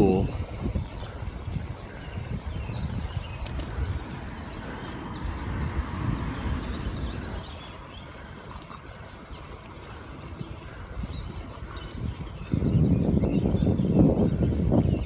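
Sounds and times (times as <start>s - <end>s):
bicycle road rumble: 0.0s - 15.0s
birds chirping: 0.0s - 15.0s
wind buffeting microphone: 0.0s - 15.0s.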